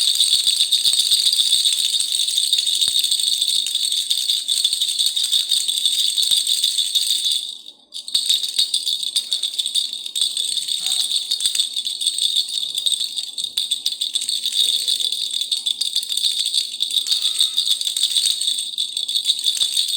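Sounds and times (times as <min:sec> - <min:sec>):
baby rattle shaking: 0:00.0 - 0:19.9.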